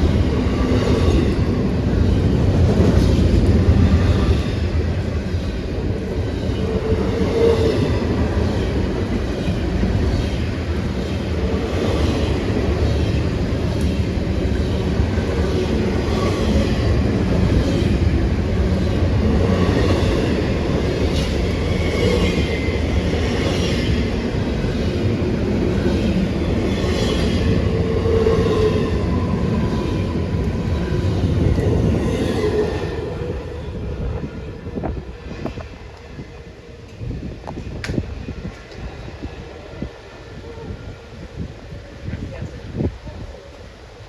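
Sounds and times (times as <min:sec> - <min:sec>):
freight train cars rumbling past: 0:00.0 - 0:44.0.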